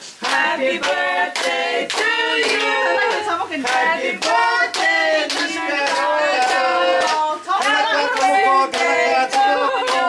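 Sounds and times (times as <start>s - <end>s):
song with singing voices: 0.0s - 10.0s.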